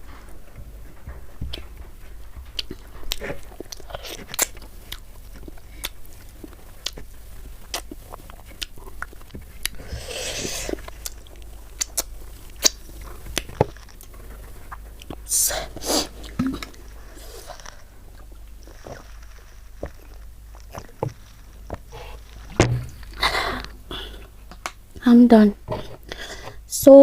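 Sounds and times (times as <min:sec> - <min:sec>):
wet chewing and mouth smacks: 0:01.5 - 0:24.8.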